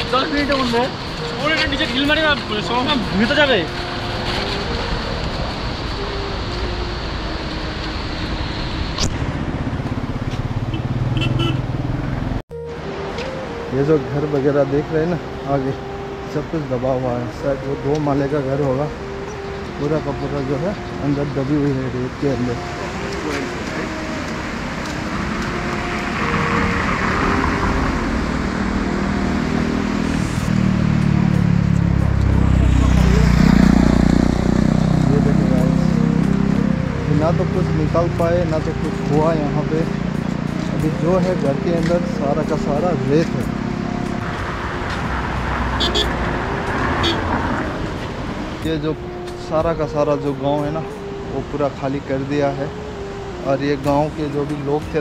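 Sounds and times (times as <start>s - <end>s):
vehicle engine: 0.0s - 14.1s, 18.9s - 55.0s
road noise: 0.0s - 55.0s.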